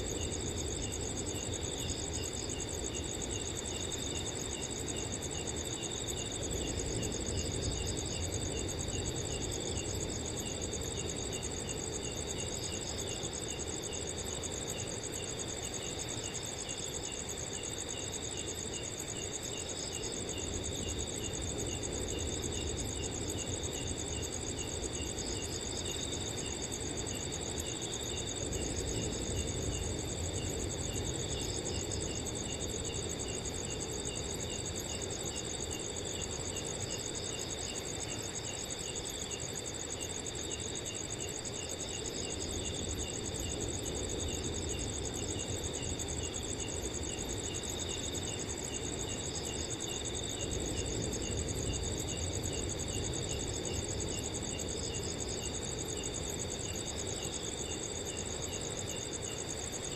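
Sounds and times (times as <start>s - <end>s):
cricket chirping regularly: 0.0s - 59.9s
crickets trilling: 0.0s - 59.9s
low rush of wind: 0.0s - 59.9s.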